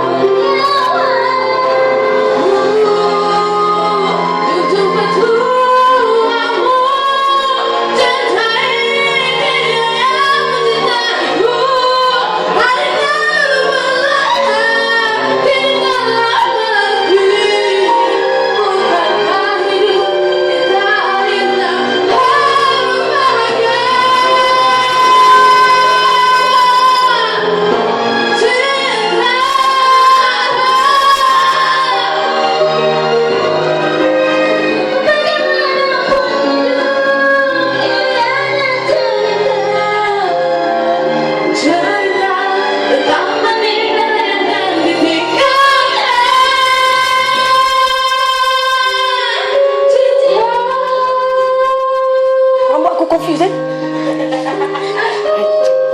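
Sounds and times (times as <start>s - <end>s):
women singing together: 0.0s - 33.5s, 34.4s - 53.4s
musical accompaniment: 0.0s - 55.9s.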